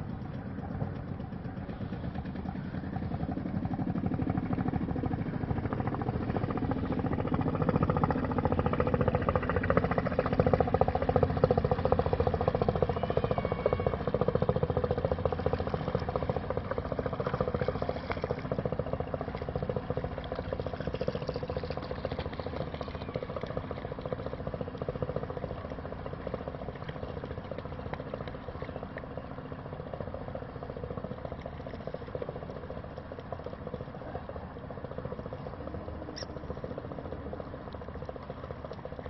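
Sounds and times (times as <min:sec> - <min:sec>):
boat inboard engine running: 0:00.0 - 0:39.0.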